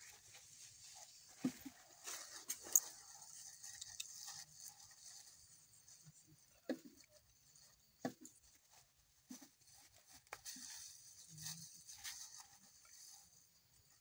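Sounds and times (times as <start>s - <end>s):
soft rustles: 0.0s - 14.0s.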